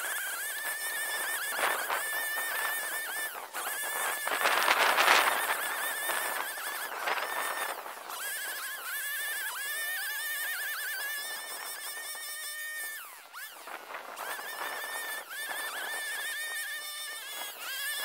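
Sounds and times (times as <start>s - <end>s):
brushcutter whining at high revs: 0.0s - 18.0s.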